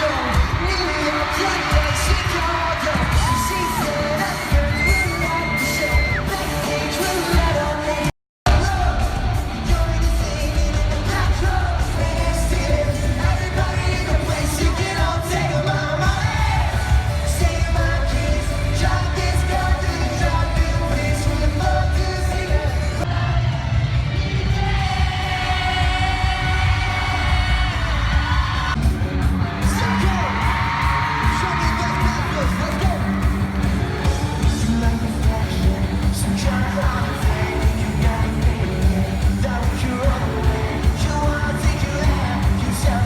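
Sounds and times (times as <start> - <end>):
crowd yelling: 0.0 - 43.0
live pop-rock band with vocals: 0.0 - 43.0.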